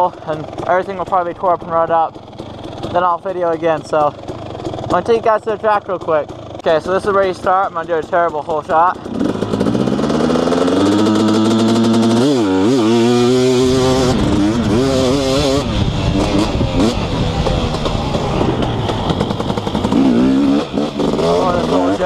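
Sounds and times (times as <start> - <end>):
two-stroke motorcycle engine: 0.0 - 22.0.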